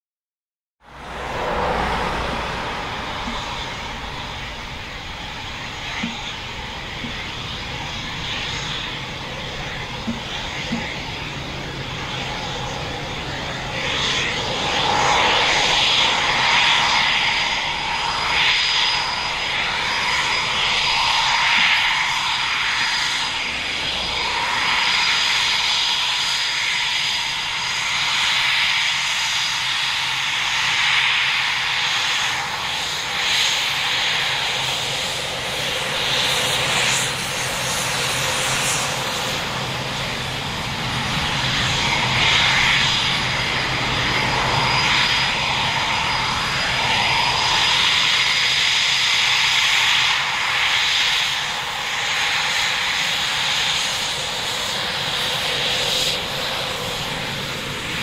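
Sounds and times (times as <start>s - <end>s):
jet engines running on ground: 0.8s - 58.0s.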